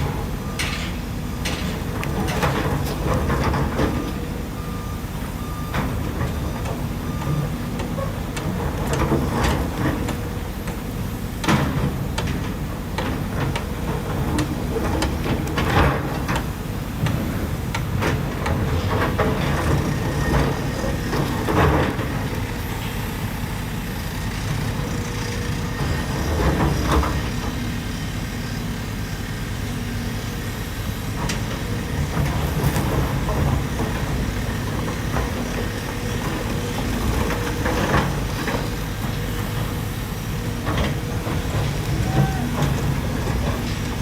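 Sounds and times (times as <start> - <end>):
excavator clunks: 0.0 - 27.9, 30.9 - 44.0
excavator diesel engine running: 0.0 - 44.0.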